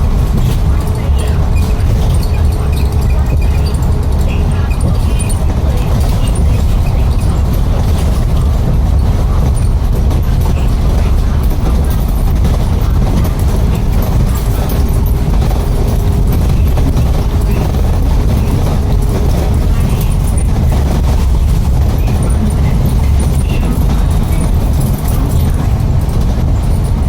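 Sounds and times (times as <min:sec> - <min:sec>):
diesel excavator rumbling: 0:00.0 - 0:27.0.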